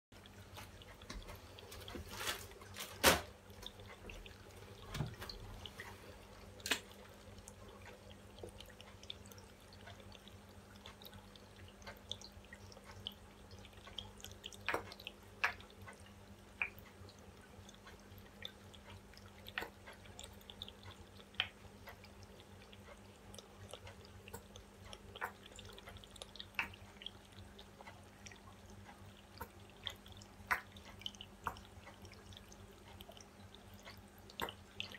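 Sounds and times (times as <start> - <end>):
soft drips: 0.2 - 34.9.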